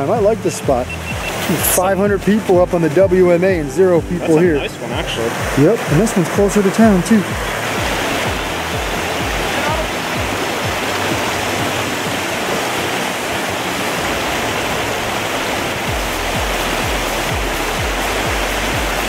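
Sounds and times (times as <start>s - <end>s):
background music: 0.0s - 19.0s
stream rushing over rocks: 0.0s - 19.0s.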